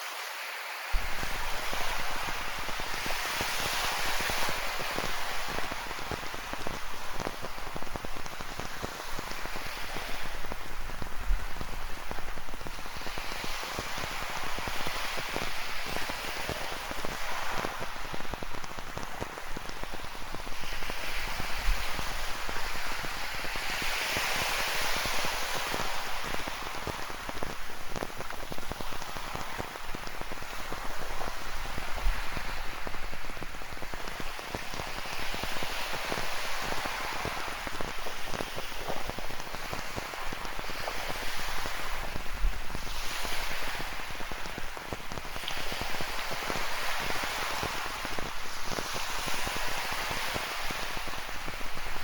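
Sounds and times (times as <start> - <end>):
ocean surf hissing: 0.0 - 52.0
rain falling: 0.9 - 52.0.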